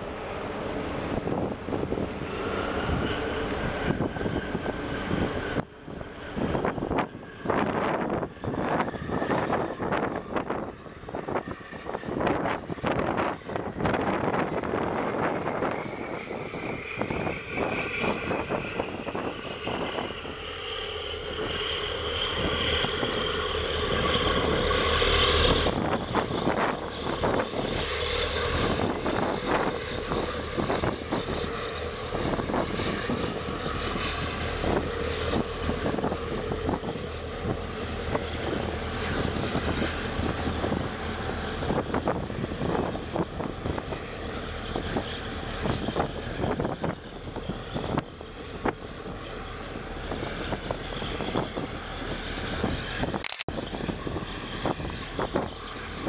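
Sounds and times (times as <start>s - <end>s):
boat engine running: 0.0s - 56.0s
wind buffeting microphone: 0.0s - 56.0s.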